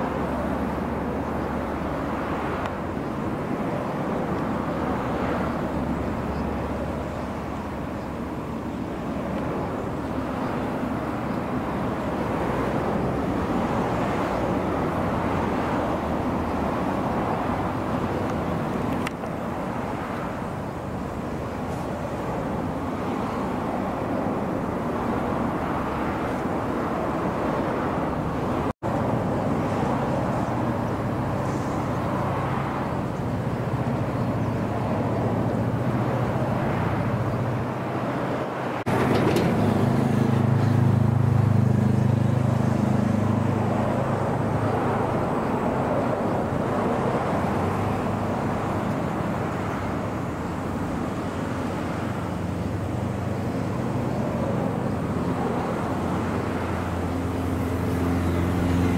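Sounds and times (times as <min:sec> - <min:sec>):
low engine hum: 0:00.0 - 0:58.9
outdoor noise: 0:00.0 - 0:58.9.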